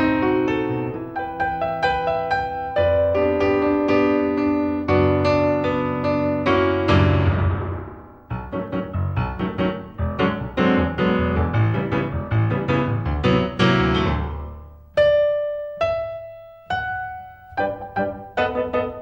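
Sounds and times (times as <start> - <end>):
solo piano music: 0.0 - 19.0.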